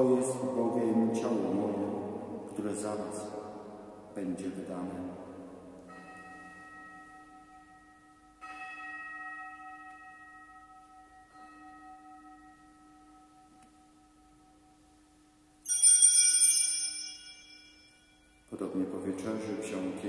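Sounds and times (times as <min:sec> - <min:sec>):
altar bell ringing: 0:00.0 - 0:18.8.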